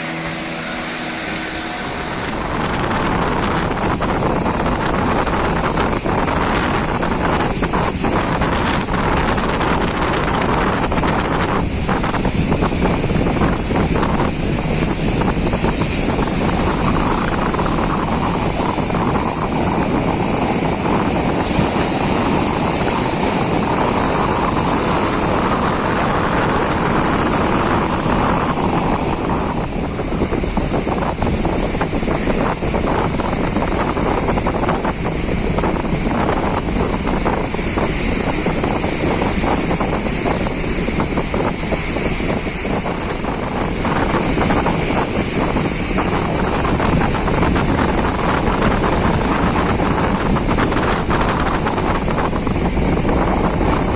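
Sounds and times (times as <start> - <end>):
heavy surf: 0.0 - 53.9
wind buffeting microphone: 0.0 - 53.9.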